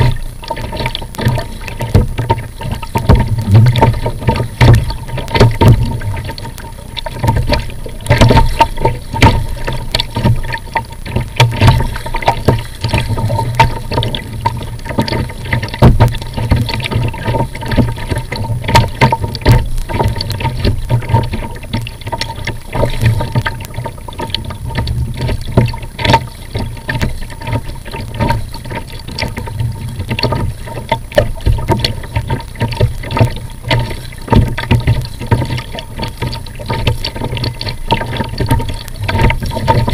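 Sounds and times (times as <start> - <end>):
paddle blades dipping: 0.0 - 39.9
water splashing against kayak: 0.0 - 39.9.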